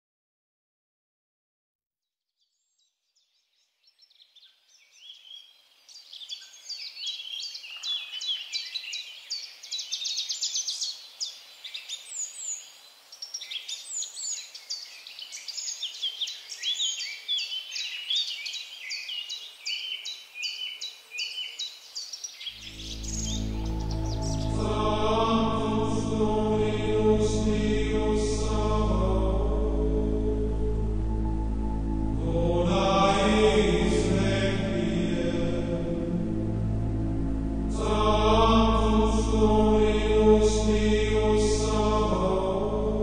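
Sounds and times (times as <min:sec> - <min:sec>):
songbirds chirping and singing: 0:02.4 - 0:43.0.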